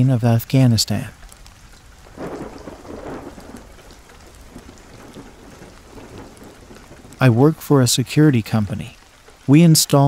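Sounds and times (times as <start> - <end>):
steady rain falling: 0.0 - 10.0
thunder rumbling: 1.3 - 9.6.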